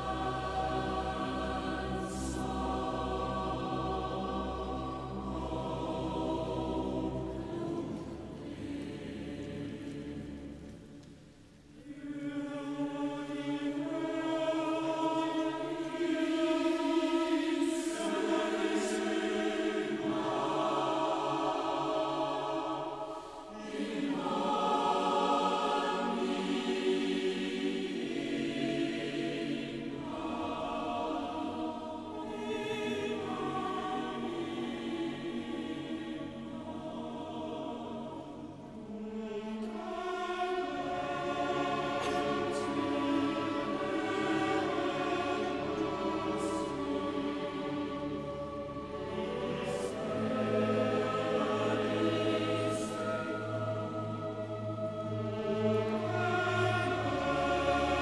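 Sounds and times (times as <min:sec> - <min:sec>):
mixed choir singing: 0:00.0 - 0:11.1, 0:11.7 - 0:58.0.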